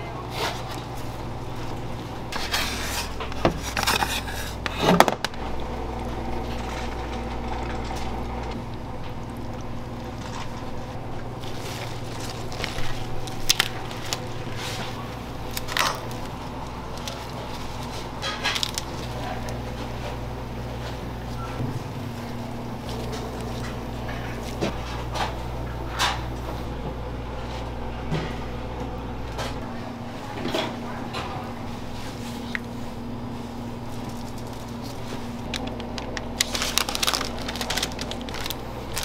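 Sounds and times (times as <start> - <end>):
kitchen equipment hum: 0.0 - 39.0.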